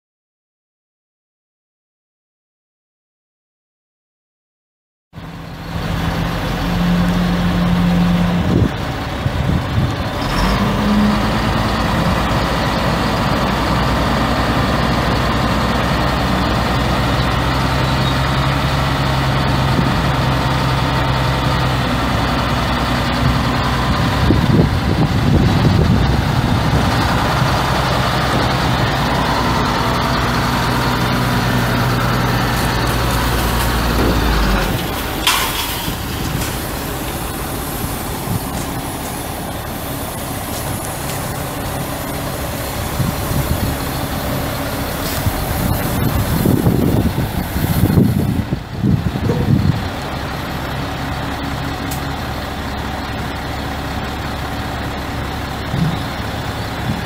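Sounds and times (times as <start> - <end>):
diesel truck engine idling: 5.2 - 57.0.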